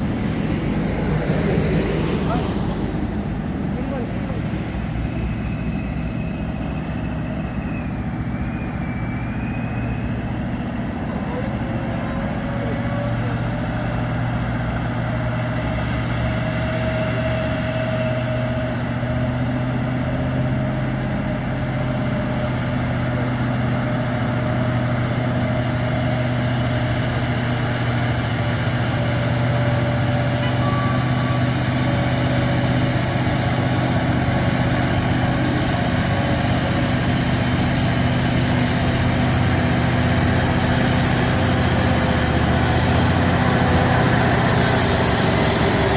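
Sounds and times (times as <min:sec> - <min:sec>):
truck engine running under load: 0:00.0 - 0:45.9.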